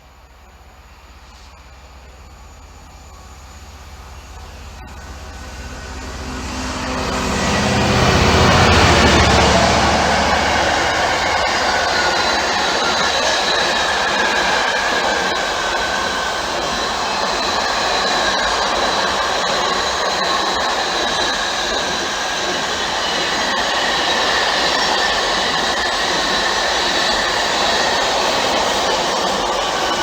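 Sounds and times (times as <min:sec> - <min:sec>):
faint high whining tones: 0:00.0 - 0:30.0
train wheels rushing on rail: 0:04.0 - 0:30.0.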